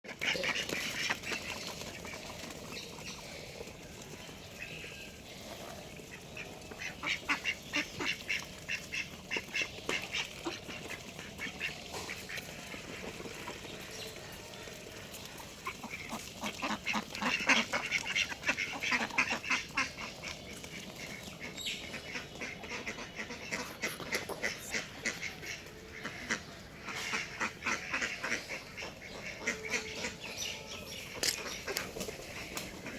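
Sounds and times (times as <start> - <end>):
birds calling rapidly: 0.1 - 32.9.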